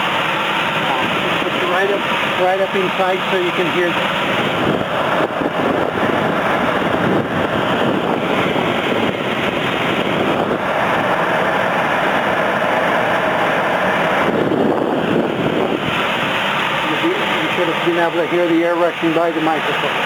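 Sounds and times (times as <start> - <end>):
air rushing through duct: 0.0 - 20.0.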